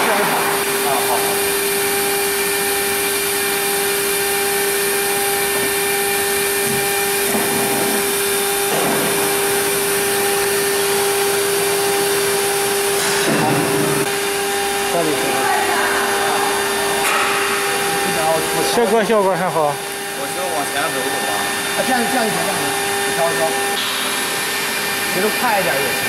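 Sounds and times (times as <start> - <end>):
coolant hiss: 0.0 - 26.0
router spindle whining: 0.0 - 26.0.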